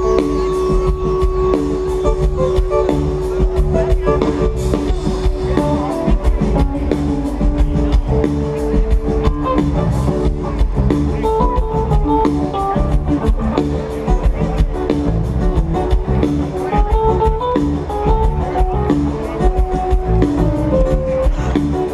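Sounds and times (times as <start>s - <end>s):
bass and drums: 0.0s - 21.9s
guitar lines: 0.0s - 21.9s
live band over speakers: 0.0s - 21.9s.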